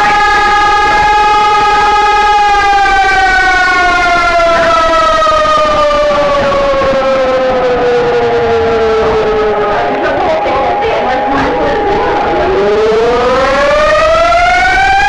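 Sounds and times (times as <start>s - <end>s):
civil defense siren: 0.0s - 15.0s.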